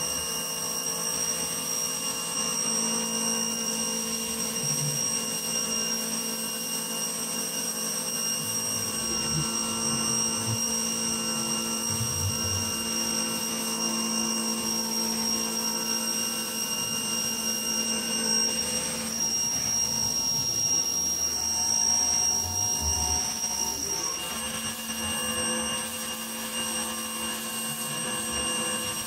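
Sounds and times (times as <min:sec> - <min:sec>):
pressure washer whine: 0:00.0 - 0:29.0.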